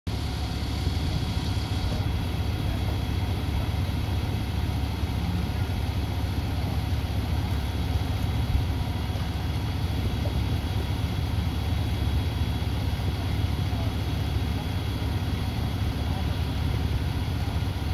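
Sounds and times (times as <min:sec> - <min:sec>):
truck engine idling: 0:00.1 - 0:17.9.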